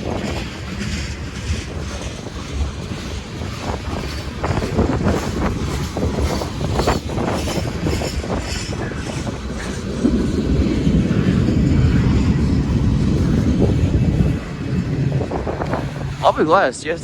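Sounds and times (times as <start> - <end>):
freight train rumbling: 0.0 - 17.0
wheels clacking over rail joints: 0.0 - 17.0.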